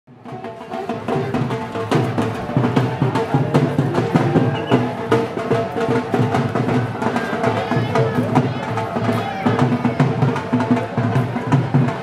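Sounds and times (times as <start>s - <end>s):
drums beating: 0.1s - 12.0s.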